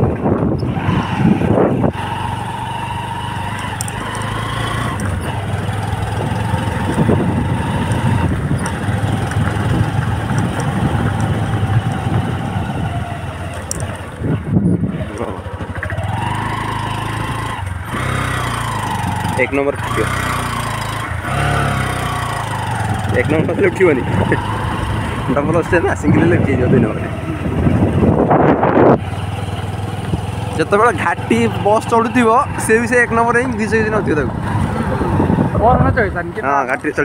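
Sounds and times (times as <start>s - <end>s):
car engine pulling uphill: 0.0s - 37.0s
engine whine: 0.0s - 37.0s.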